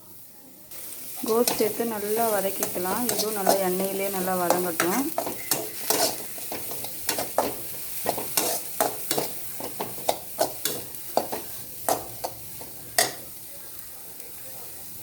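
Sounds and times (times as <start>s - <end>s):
oil sizzling: 0.1s - 15.0s
spatula scraping a pan: 1.2s - 13.3s.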